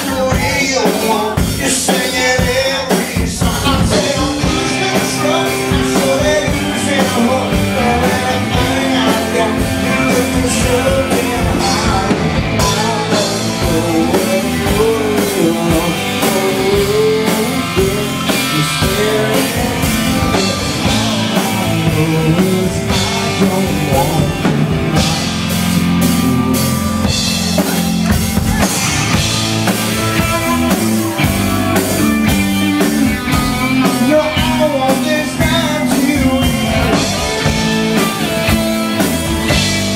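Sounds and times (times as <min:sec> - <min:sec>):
bass guitar: 0:00.0 - 0:39.9
drum kit: 0:00.0 - 0:39.9
electric guitar: 0:00.0 - 0:39.9
person singing: 0:00.0 - 0:39.9.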